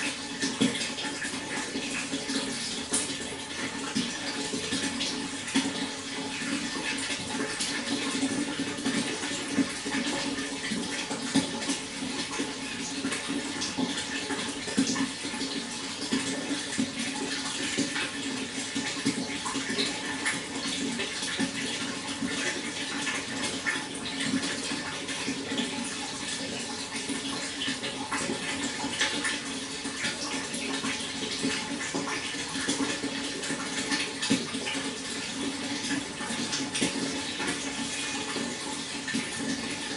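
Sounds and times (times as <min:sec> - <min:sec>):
small splashes and drips: 0:00.0 - 0:39.9
water flowing: 0:00.0 - 0:39.9.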